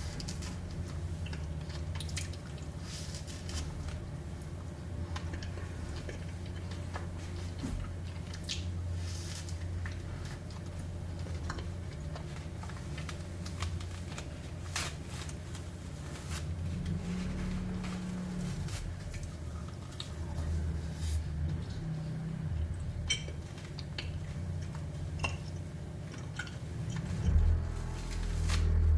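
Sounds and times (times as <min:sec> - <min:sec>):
soft chewing and squishing: 0:00.0 - 0:27.4
low hum: 0:00.0 - 0:28.9.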